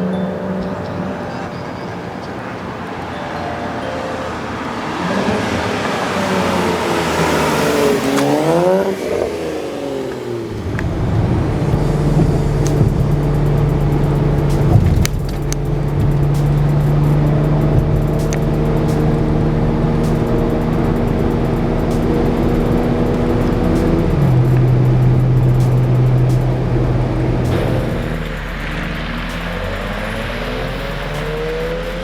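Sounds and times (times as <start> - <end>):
car exhaust accelerating: 4.4 - 32.0.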